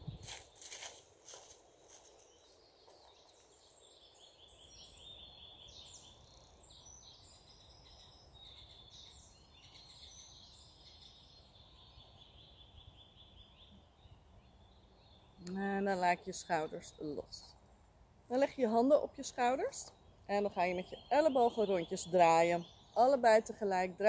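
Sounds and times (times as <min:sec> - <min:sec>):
birdsong trilling: 0:02.0 - 0:17.5, 0:18.3 - 0:24.0.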